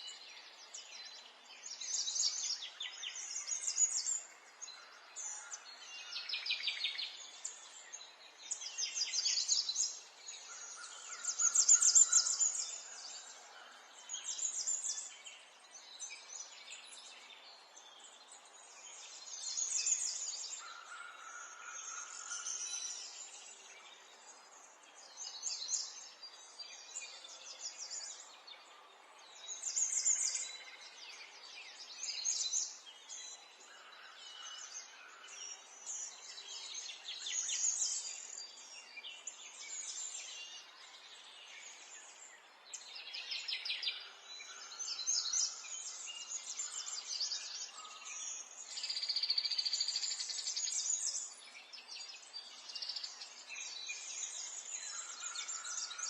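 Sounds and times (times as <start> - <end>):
faint outdoor hiss: 0.0 - 56.0
songbirds chirping: 0.0 - 56.0.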